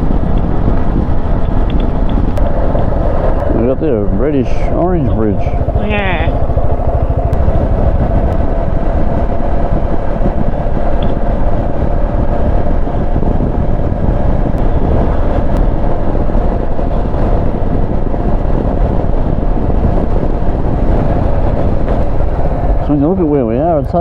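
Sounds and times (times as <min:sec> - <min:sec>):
motorcycle engine drone: 0:00.0 - 0:24.0
wind and road noise: 0:00.0 - 0:24.0.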